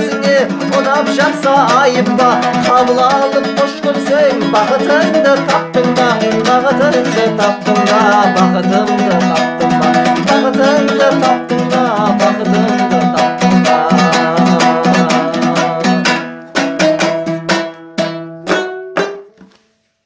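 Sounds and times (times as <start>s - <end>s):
dombyra strumming: 0.0s - 20.0s.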